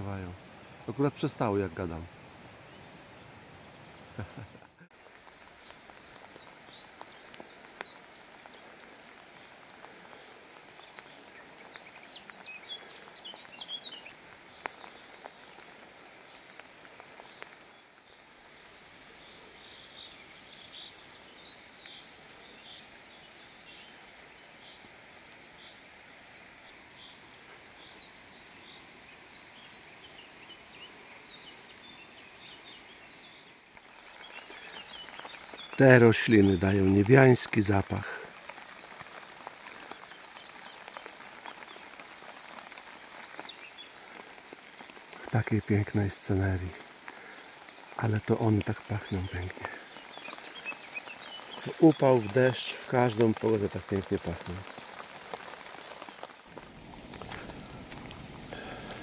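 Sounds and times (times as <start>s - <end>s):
light rain hiss: 0.0s - 59.0s
songbirds chirping and singing: 5.5s - 56.4s.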